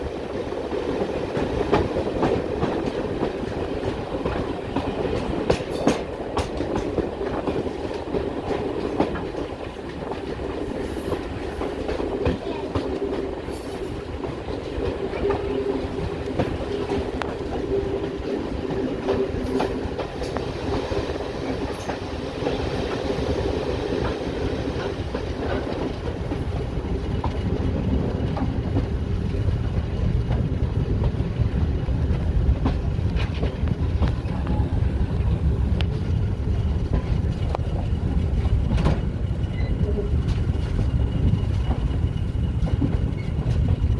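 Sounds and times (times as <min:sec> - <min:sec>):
train wheels clickety-clack: 0:00.0 - 0:43.9.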